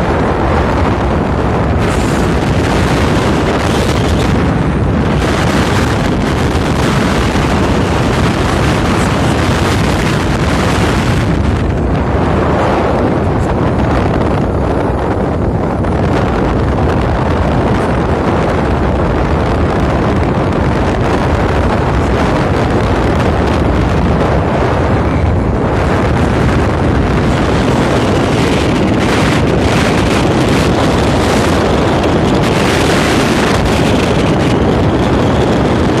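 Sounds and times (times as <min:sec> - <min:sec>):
low rumble of ship: 0:00.0 - 0:36.0
wind buffeting microphone: 0:00.0 - 0:36.0.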